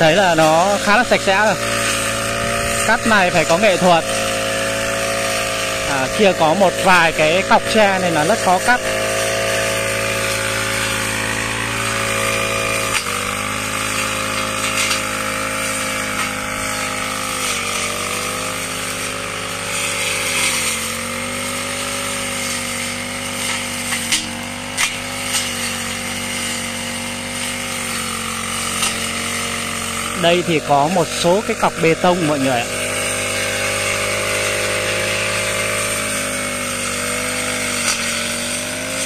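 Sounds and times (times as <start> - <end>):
brush cutter engine running: 0.0 - 39.0.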